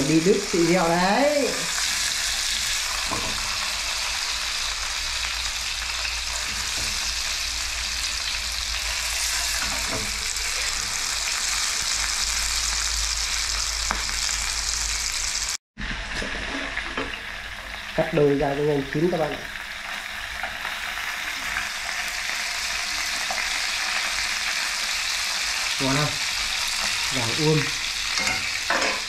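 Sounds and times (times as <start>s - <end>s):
hot oil sizzling in a frying pan: 0.0s - 29.0s.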